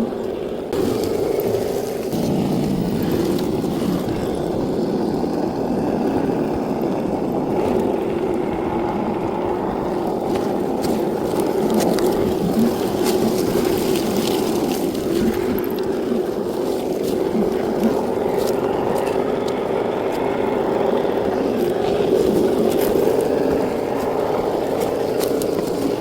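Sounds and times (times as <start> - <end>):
toy car rolling rumble: 0.0 - 26.0.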